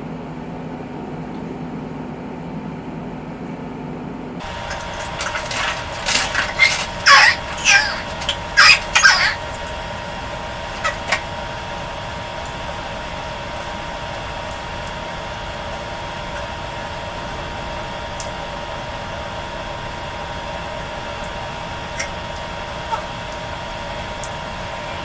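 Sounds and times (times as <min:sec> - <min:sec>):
steady background hum: 0:00.0 - 0:25.0
faint clicks: 0:04.6 - 0:25.0.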